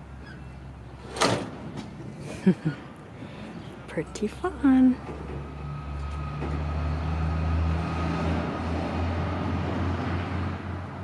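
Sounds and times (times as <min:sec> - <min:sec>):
road noise hiss: 0:00.0 - 0:11.0
vehicle engine hum: 0:00.0 - 0:11.0.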